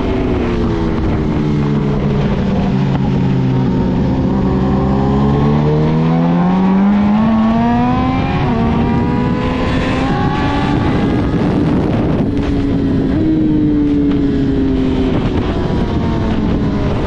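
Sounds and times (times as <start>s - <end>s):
motorcycle engine accelerating: 0.0s - 17.0s
wind rushing: 0.0s - 17.0s.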